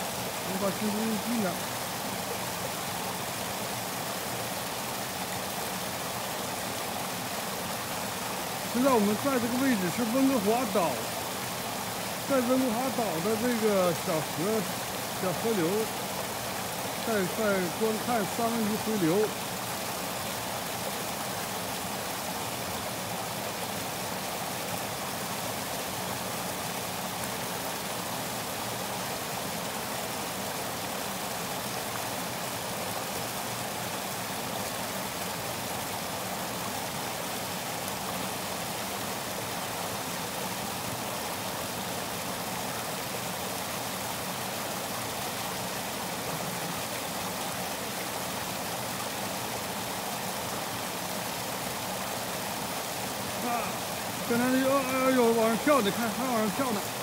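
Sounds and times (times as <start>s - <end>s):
water rushing over weir: 0.0s - 57.0s.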